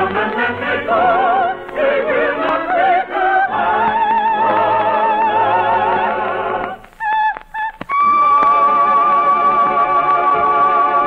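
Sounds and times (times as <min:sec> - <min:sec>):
high voice singing with vibrato: 0:00.0 - 0:11.0.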